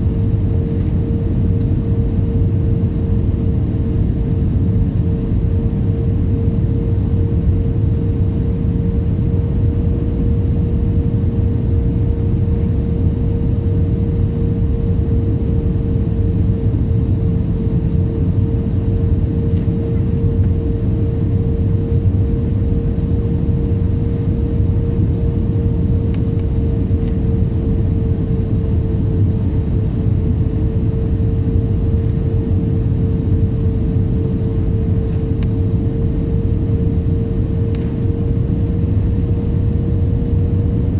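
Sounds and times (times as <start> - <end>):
airliner engine rumble: 0.0 - 40.9.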